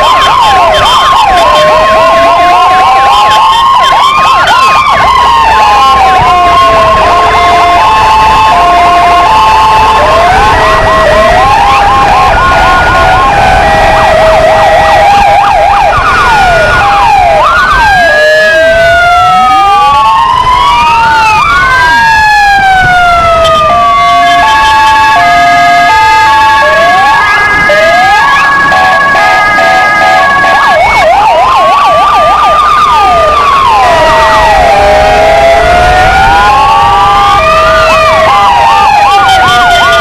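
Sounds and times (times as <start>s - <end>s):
police sirens wailing and yelping: 0.0s - 40.0s.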